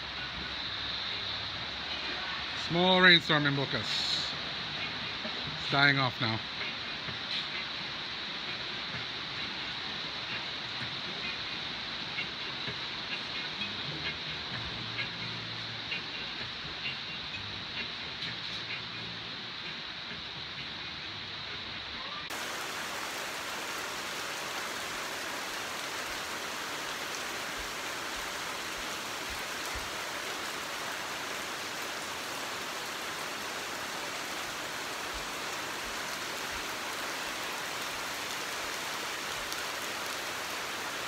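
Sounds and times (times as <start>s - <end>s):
rain on foliage and wood: 0.0s - 41.0s.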